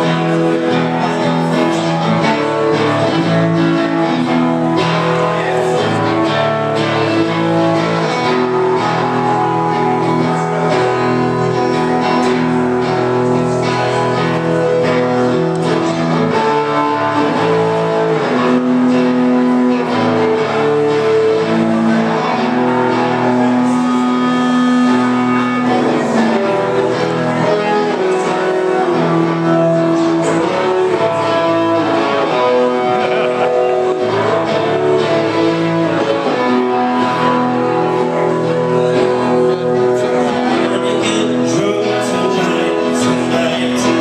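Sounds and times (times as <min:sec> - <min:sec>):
live rock music led by guitar: 0:00.0 - 0:44.0.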